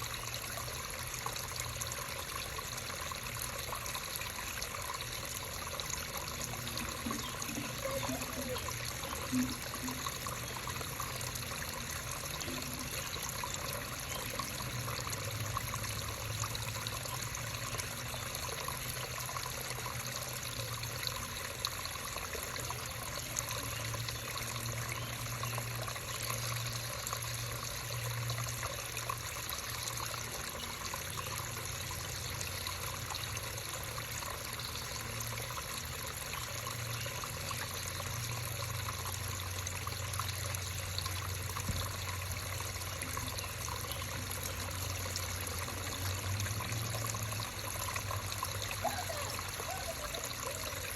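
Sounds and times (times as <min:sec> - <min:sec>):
creek water trickling: 0:00.0 - 0:50.9.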